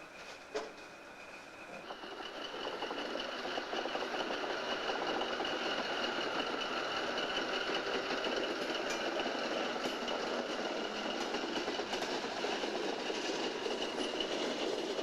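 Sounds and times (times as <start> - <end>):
diesel locomotive engine: 0.0 - 15.0.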